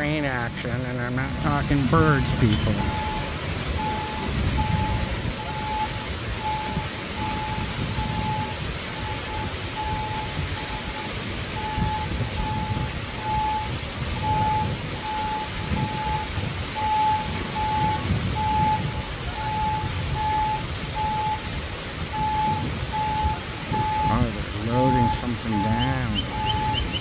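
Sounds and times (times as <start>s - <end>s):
backup alarm beeping: 0.0s - 27.0s.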